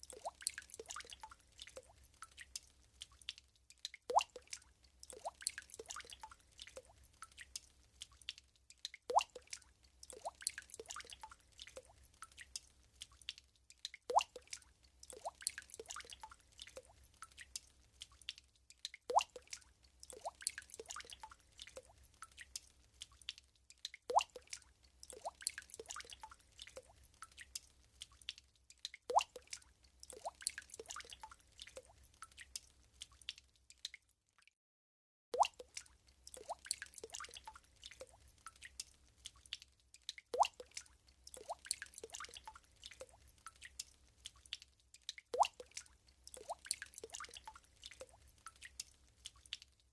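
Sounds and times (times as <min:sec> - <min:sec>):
water drops plopping into water: 0:00.0 - 0:34.0, 0:35.3 - 0:49.8.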